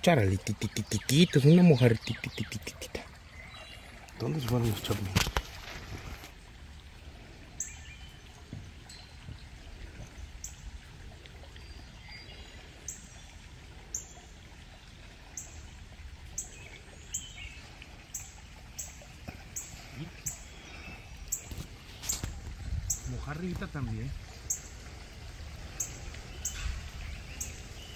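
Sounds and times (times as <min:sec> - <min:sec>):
water trickling: 0:00.0 - 0:27.9.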